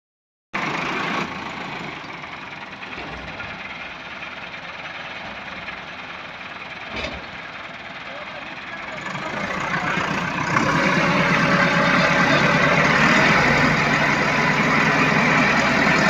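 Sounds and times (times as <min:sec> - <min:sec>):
tractor diesel engine idling: 0:00.6 - 0:16.0.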